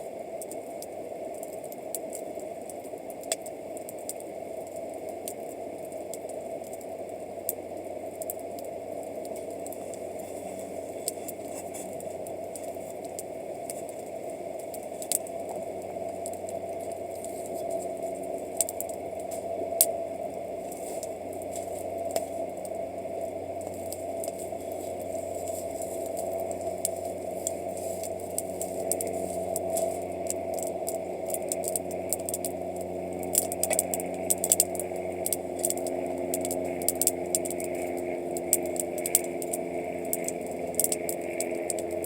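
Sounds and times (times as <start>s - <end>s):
burning wood popping: 0.0s - 42.0s
campfire crackling: 0.0s - 42.0s.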